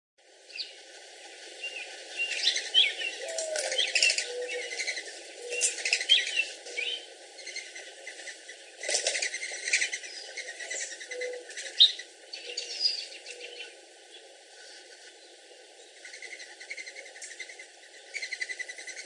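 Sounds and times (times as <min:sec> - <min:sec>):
songbirds chirping: 0:00.2 - 0:19.0
dove cooing: 0:01.3 - 0:19.0.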